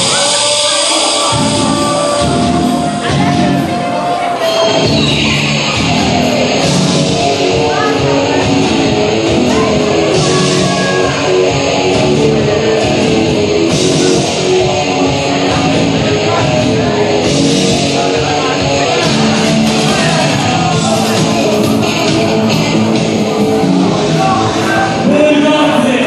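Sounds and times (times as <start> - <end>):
rock music with electric guitar: 0.0 - 26.0.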